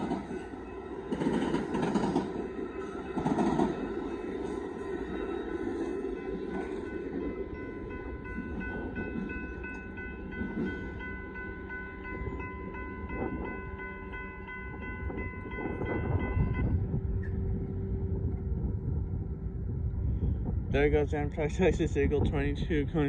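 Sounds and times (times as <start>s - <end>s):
crossing warning bell ringing: 0.0s - 19.4s
train rumble: 0.0s - 23.0s.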